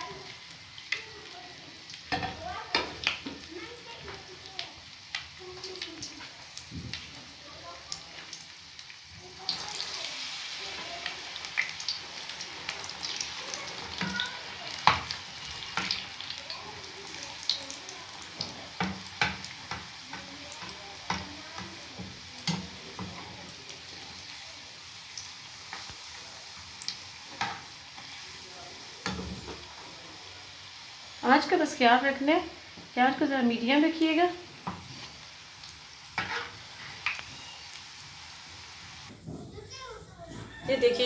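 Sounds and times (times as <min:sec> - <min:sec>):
food sizzling in oil: 0:00.0 - 0:39.1.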